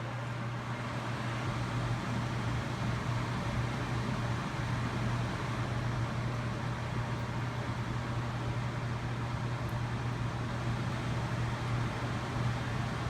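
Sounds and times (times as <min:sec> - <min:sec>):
fan air rushing: 0:00.0 - 0:13.0.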